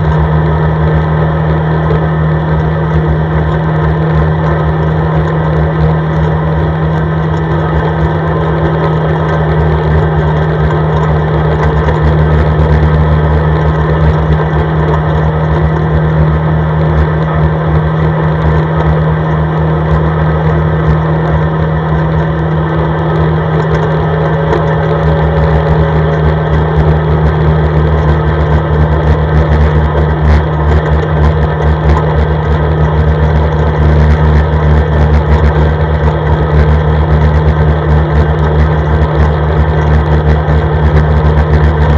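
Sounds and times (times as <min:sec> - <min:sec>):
atv engine droning: 0:00.0 - 0:41.9.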